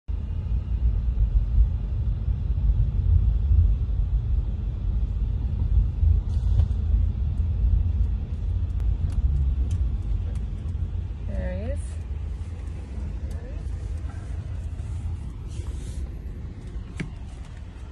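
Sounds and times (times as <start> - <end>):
vehicle rumbling: 0.1 - 17.9.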